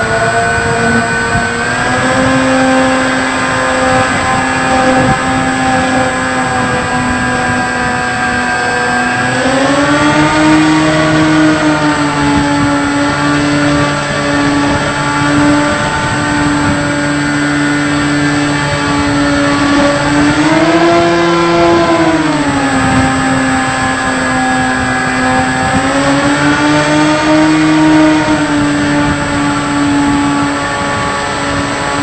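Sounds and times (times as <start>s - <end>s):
electric motor and propeller hum: 0.0s - 32.0s.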